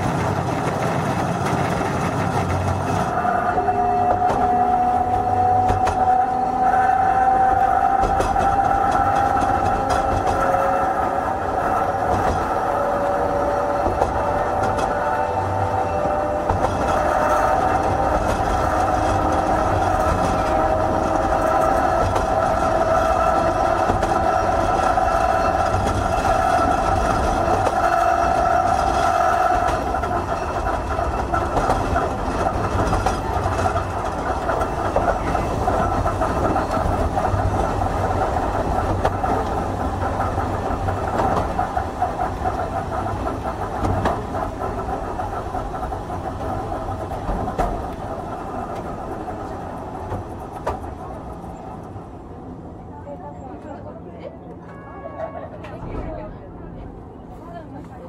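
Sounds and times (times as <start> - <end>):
tram motor whine: 0.0 - 53.8
wheels rumbling on rail: 0.0 - 58.0.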